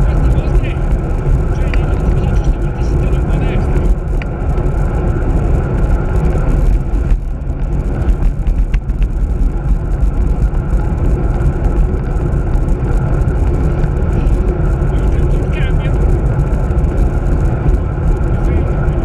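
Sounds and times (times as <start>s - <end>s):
tyre noise on asphalt: 0.0s - 19.0s
wind buffeting microphone: 0.0s - 19.0s.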